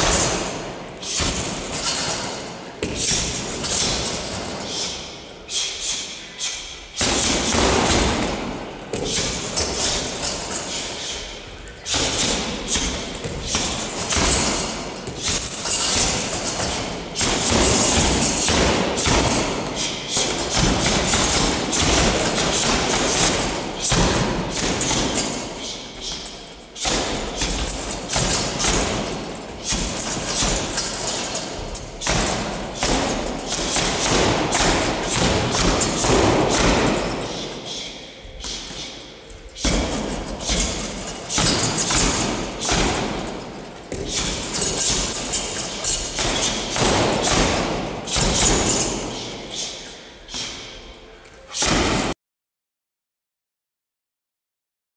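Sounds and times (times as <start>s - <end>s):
punches thudding on heavy bags: 0.0s - 4.8s, 7.0s - 11.0s, 11.8s - 37.7s, 39.6s - 49.4s.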